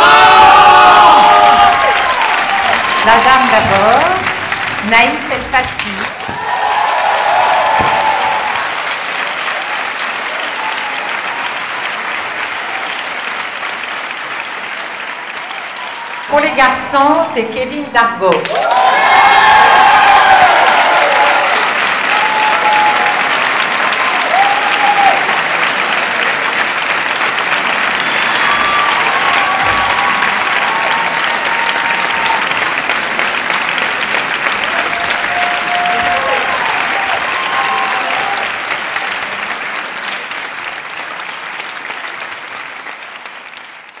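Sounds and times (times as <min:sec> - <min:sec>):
audience applauding: 0:00.0 - 0:16.8, 0:18.3 - 0:44.0.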